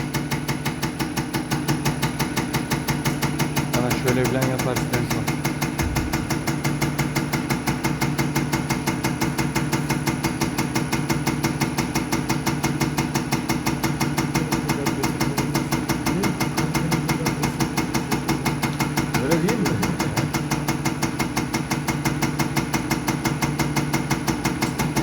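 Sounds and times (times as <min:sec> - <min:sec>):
mechanical hum with ticking: 0:00.0 - 0:25.0.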